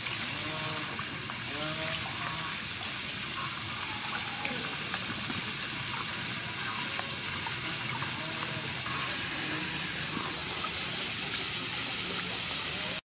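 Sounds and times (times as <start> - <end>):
small splashes and drips: 0.0 - 13.0.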